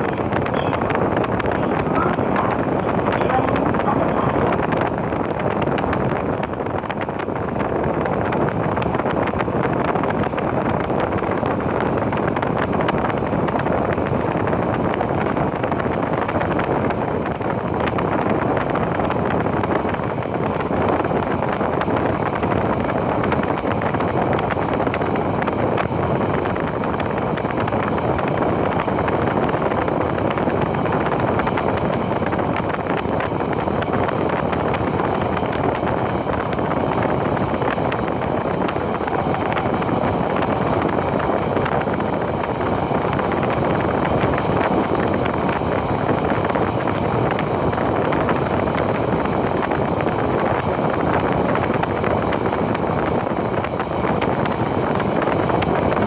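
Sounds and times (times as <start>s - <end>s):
train running rumble inside carriage: 0.0s - 56.0s.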